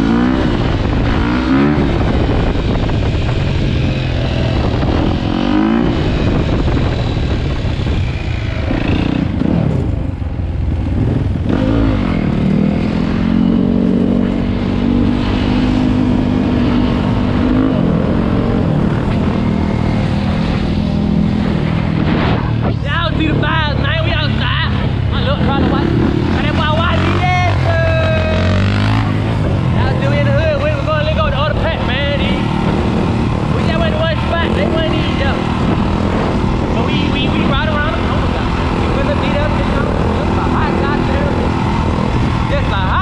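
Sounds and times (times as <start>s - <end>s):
wind noise on microphone: 0.0s - 43.0s.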